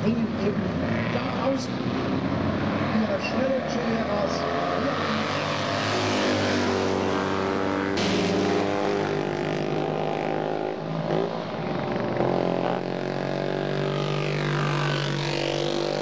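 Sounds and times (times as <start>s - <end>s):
racing motorcycles passing: 0.0s - 16.0s.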